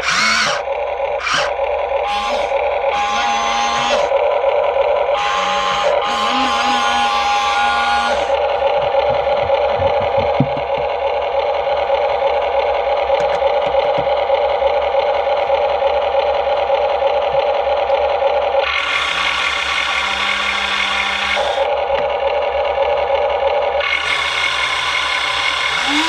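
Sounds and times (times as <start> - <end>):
harsh bright engine sound: 0.0 - 26.0
simulated engine sound from speaker: 0.0 - 26.0.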